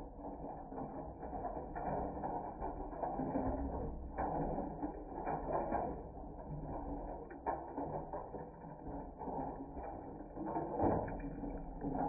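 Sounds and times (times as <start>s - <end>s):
water crackling with small splashes: 0.1s - 12.0s.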